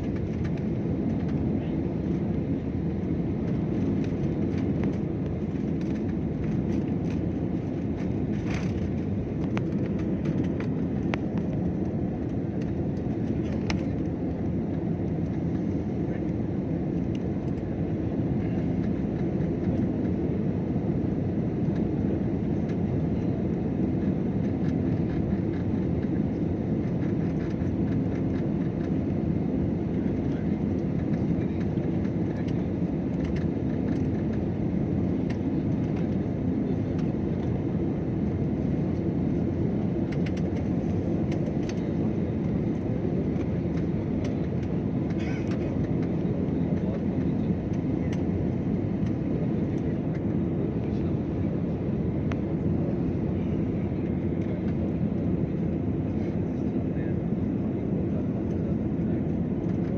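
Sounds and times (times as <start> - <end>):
airliner engines droning: 0.0 - 59.9.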